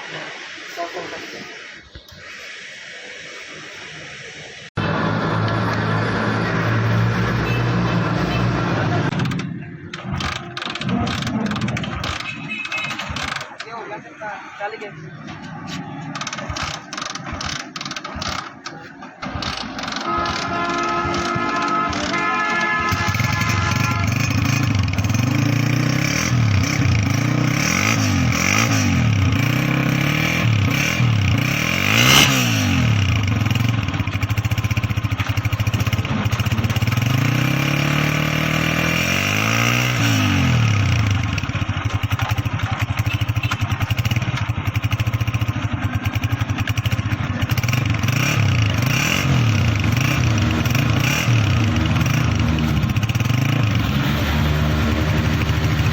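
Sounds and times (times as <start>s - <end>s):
motorcycle engine revving: 4.8s - 13.7s, 15.0s - 55.9s.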